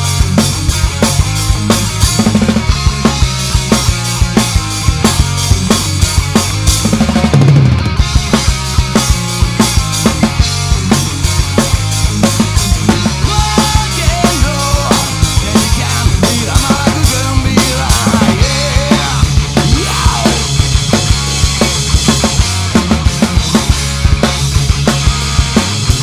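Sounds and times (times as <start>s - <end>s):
rock drum kit played hard: 0.0s - 26.0s
rock song recording: 0.0s - 26.0s.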